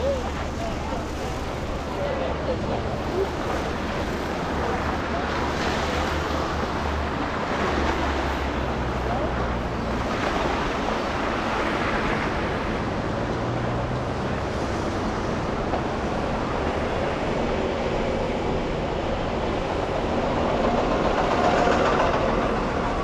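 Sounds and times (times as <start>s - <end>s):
city traffic road noise: 0.0s - 23.0s.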